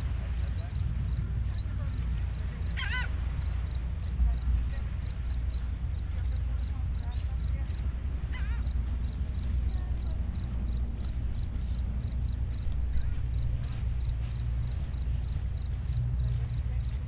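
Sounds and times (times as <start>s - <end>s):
gentle ocean surf: 0.0s - 17.0s
insect chirping: 0.0s - 17.0s.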